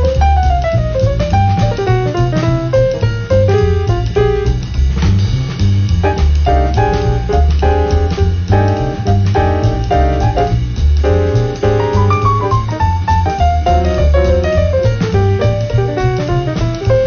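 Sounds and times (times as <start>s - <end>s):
bass line: 0.0s - 17.0s
piano chords: 0.0s - 17.0s.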